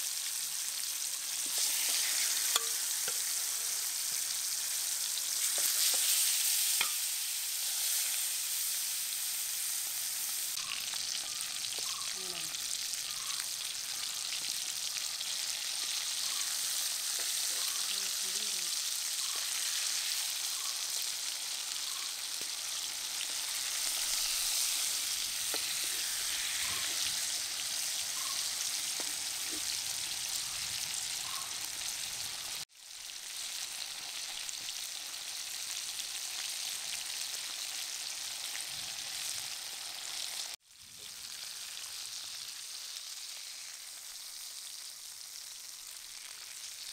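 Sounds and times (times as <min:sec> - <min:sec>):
fish sizzling in hot oil: 0:00.0 - 0:46.9.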